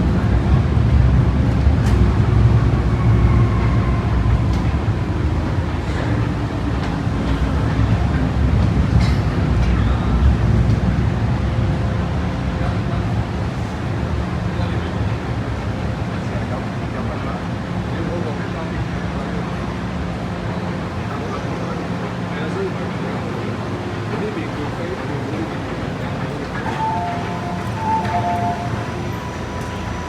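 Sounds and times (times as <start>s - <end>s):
low rumble of train wheels: 0.0s - 30.0s.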